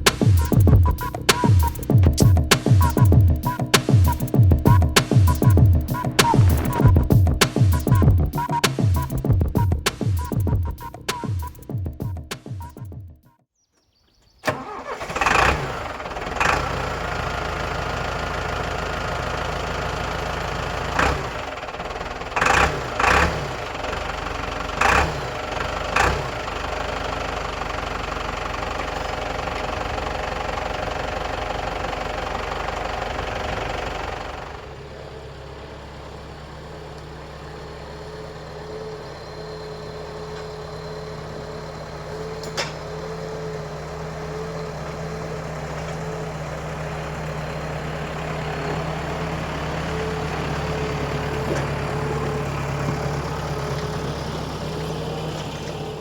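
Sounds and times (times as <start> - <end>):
engine running: 0.0 - 13.3, 14.5 - 56.0.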